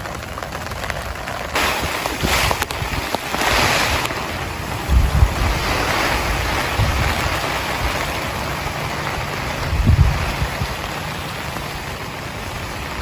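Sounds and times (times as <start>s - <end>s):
heavy rain pouring: 0.0s - 13.0s
wind gusts buffeting microphone: 0.0s - 13.0s.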